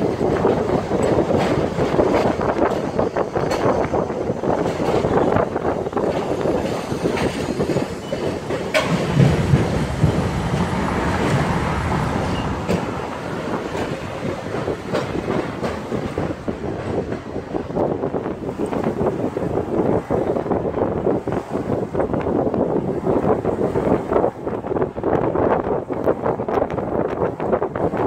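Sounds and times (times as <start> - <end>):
passing traffic: 0.0 - 28.0.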